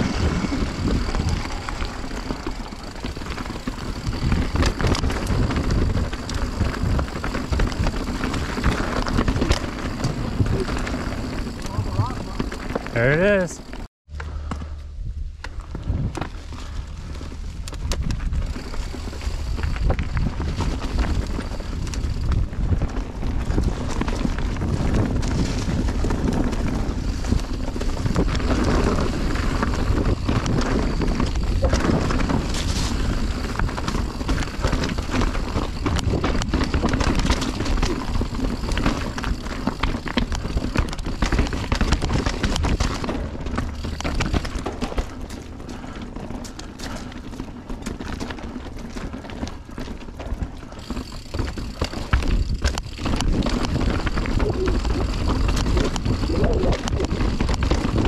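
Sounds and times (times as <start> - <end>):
wind buffeting microphone: 0.0 - 13.4, 14.9 - 49.6, 50.4 - 58.0
bike rattling over bumps: 0.0 - 58.0
bike tyres rolling over dirt: 0.0 - 58.0.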